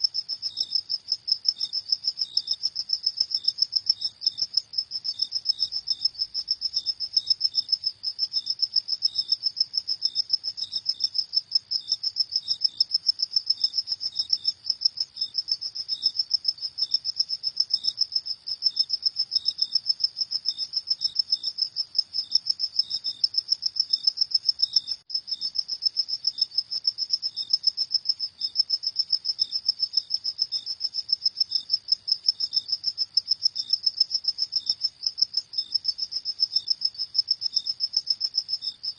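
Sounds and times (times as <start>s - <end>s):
crickets chirping fast: 0.0s - 38.9s
lower-pitched cricket chirping slowly: 0.0s - 38.9s.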